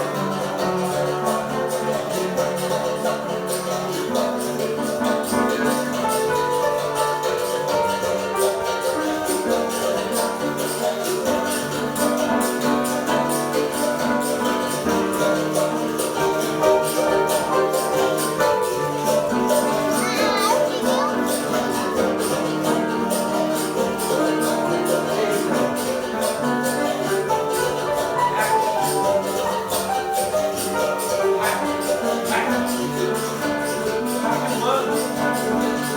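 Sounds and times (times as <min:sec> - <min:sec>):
basket shakers rattling: 0:00.0 - 0:35.9
piano chords: 0:00.0 - 0:35.9.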